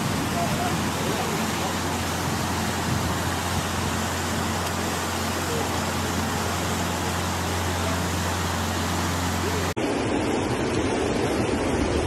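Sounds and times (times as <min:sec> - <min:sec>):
floodwater rushing: 0:00.0 - 0:12.0
low hum: 0:00.0 - 0:12.0.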